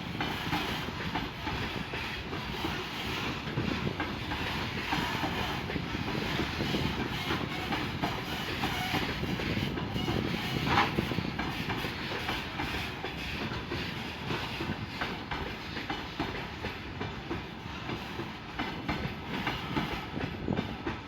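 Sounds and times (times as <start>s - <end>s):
train rumble: 0.0s - 21.0s
train wheels clattering over joints: 0.0s - 21.0s.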